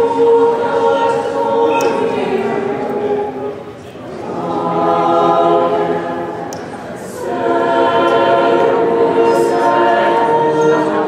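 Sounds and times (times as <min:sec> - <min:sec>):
mixed choir singing: 0:00.0 - 0:11.0.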